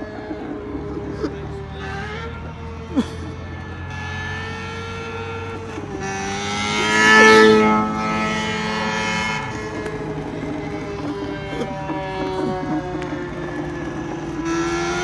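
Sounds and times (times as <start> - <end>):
synthetic motorbike engine revving: 0.0 - 15.0.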